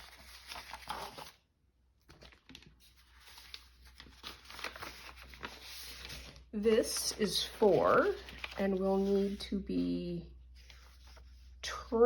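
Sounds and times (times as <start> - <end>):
paper rustling and crinkling: 0.0 - 1.4, 2.0 - 11.6.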